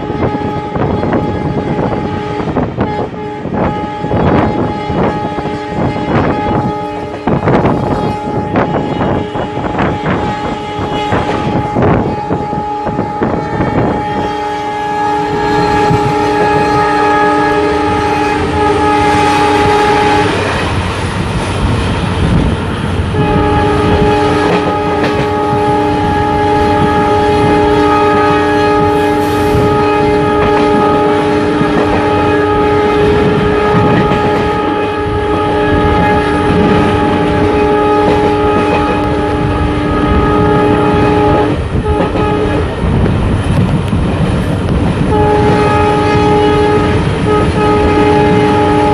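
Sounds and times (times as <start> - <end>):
train horn blasts: 0.0 - 20.8, 23.1 - 42.9, 45.0 - 48.9
train rumble and wheel clatter: 0.0 - 48.9.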